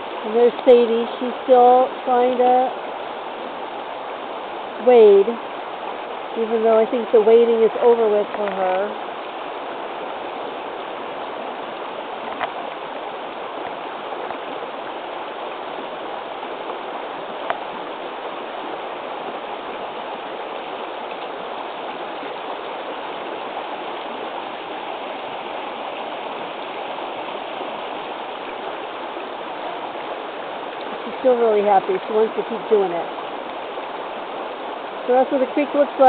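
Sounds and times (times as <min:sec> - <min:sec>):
creek rushing over rocks: 0:00.0 - 0:36.0.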